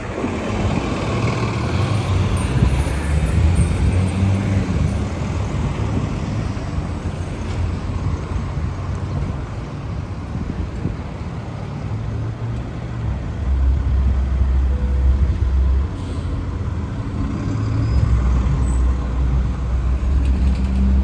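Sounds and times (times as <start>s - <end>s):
bus engine passing by: 0.0s - 21.0s
traffic rumble: 0.0s - 21.0s.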